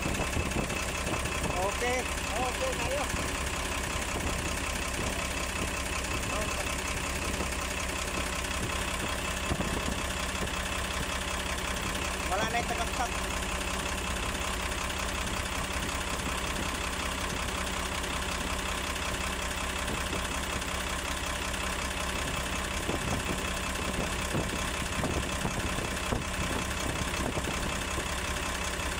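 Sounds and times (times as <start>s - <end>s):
diesel truck engine idling: 0.0s - 28.9s.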